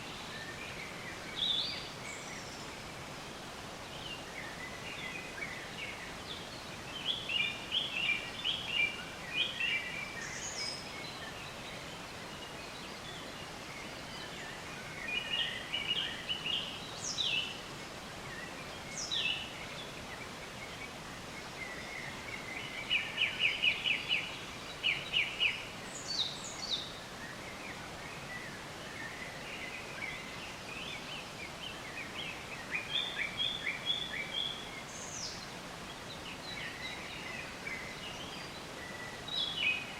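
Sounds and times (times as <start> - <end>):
birds singing: 0.0 - 39.9
outdoor ambience hiss: 0.0 - 39.9.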